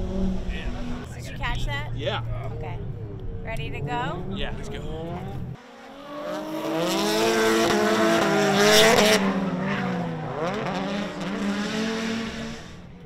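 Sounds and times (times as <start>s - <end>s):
car engines at high revs: 0.0s - 13.0s.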